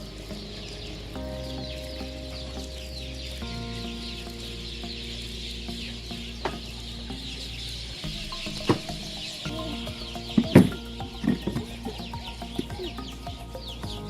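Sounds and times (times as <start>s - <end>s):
birds chirping and twittering: 0.0s - 14.0s
low sustained tones: 0.0s - 14.0s.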